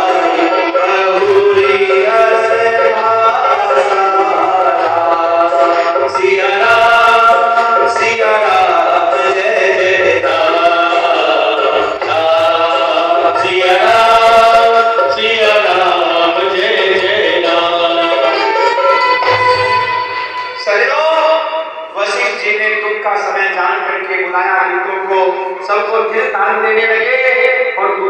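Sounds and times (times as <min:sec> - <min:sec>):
devotional singing with music: 0:00.0 - 0:28.0.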